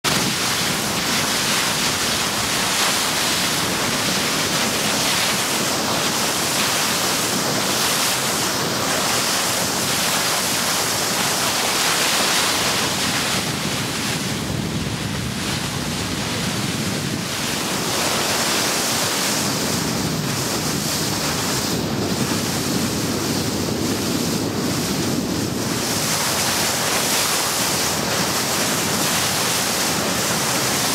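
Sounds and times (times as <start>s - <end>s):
water rushing along boat hull: 0.0s - 30.9s
wind on microphone: 0.0s - 30.9s.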